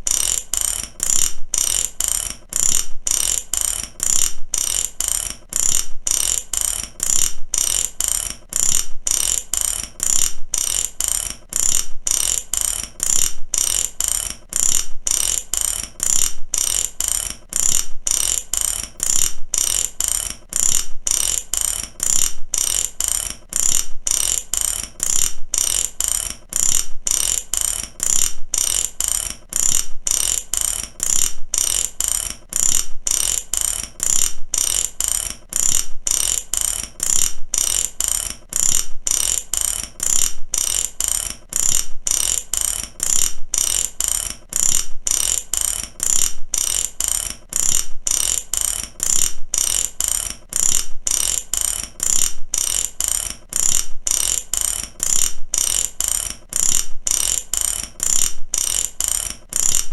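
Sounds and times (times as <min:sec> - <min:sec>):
mechanical ratchet clicking: 0:00.0 - 0:59.9.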